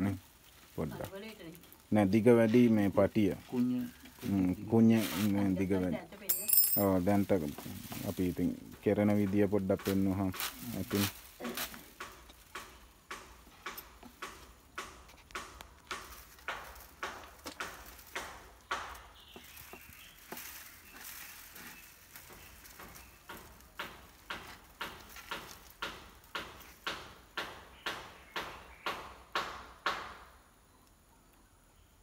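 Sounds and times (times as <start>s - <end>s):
dry leaf broom clicking: 0.0s - 27.6s.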